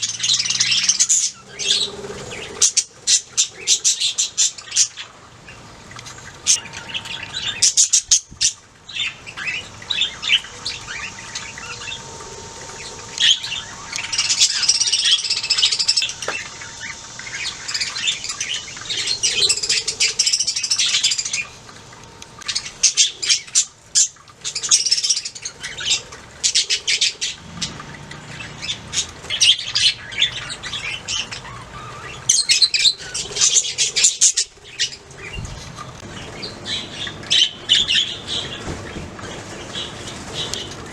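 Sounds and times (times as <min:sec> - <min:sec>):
budgies chirping and warbling: 0:00.0 - 0:40.9.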